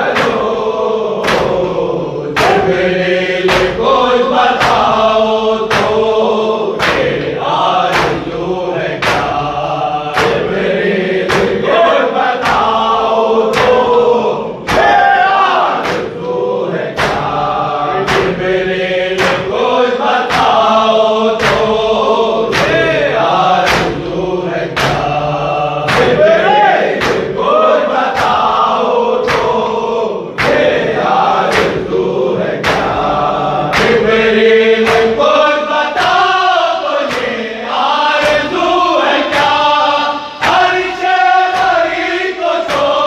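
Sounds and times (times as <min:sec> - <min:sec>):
chest-beating slaps: 0:00.0 - 0:43.0
men chanting: 0:00.0 - 0:43.0.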